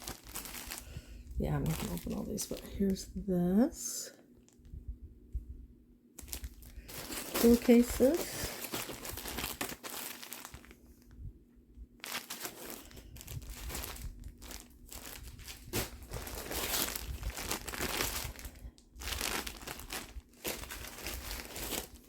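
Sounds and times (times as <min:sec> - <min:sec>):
fabric rustling and crinkling: 0:00.0 - 0:03.0, 0:06.2 - 0:11.2, 0:12.0 - 0:22.0.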